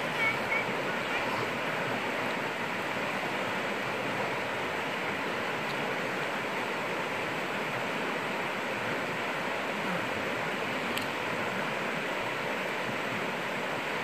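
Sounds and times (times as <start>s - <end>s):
river rapids rushing over rocks: 0.0s - 14.0s.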